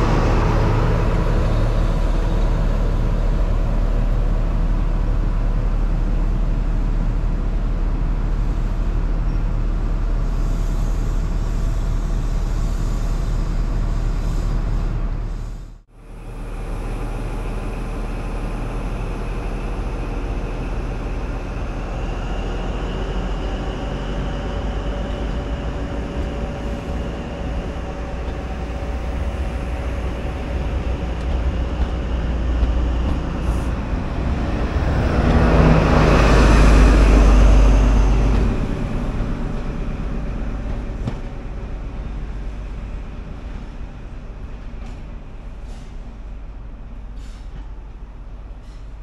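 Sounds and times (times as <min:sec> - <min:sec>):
train passing: 0:00.0 - 0:49.0.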